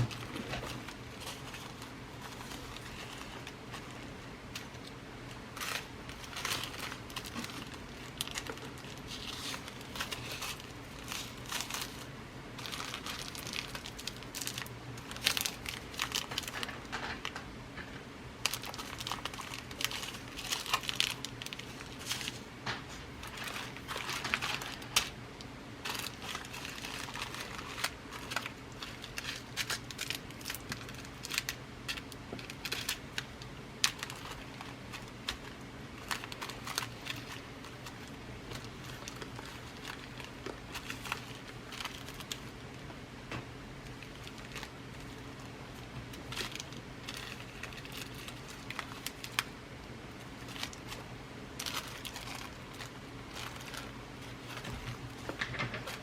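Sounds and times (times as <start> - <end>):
bead packets rustling and crinkling: 0.0 - 42.7, 43.8 - 56.0
faint low hum: 0.0 - 56.0.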